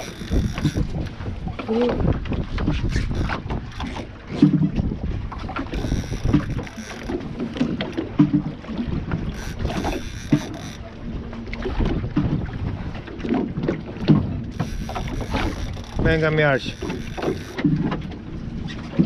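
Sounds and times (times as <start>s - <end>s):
water slapping against boat hull: 0.0s - 19.0s
wind buffeting microphone: 0.0s - 19.0s.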